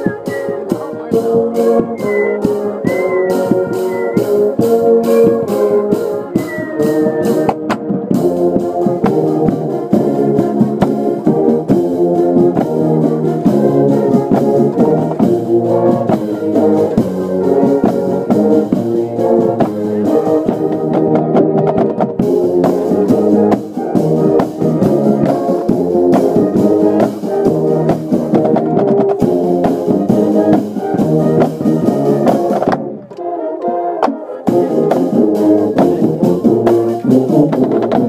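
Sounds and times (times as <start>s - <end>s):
brass instruments playing chords: 0.0s - 38.0s
drums keeping a steady beat: 0.0s - 38.0s.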